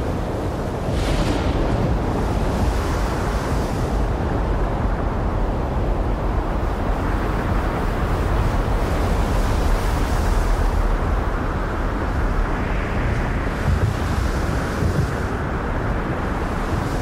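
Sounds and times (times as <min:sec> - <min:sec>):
heavy breaking waves: 0:00.0 - 0:17.0
wind: 0:00.0 - 0:17.0.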